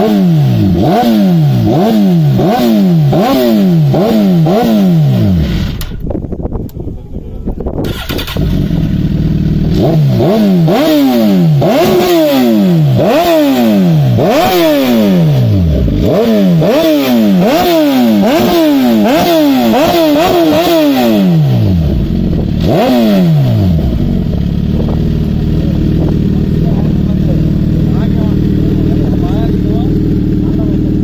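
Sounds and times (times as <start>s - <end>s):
motorcycle engine revving: 0.0s - 6.2s, 7.8s - 31.0s.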